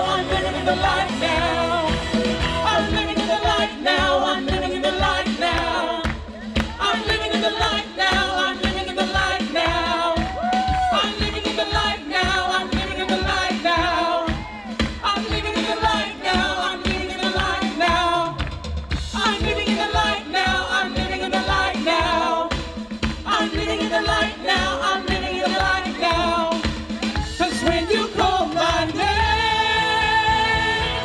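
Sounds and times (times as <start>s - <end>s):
people singing: 0.0s - 31.0s
worship band playing: 0.0s - 31.0s.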